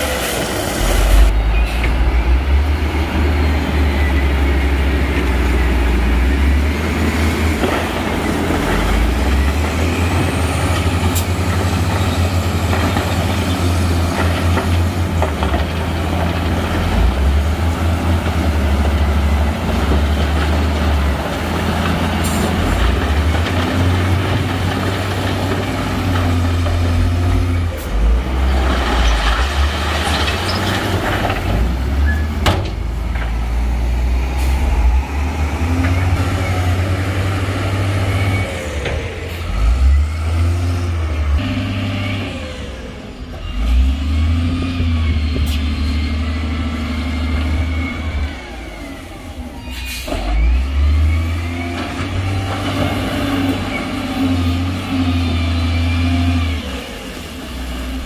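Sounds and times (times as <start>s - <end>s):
heavy diesel engines revving: 0.0s - 58.0s.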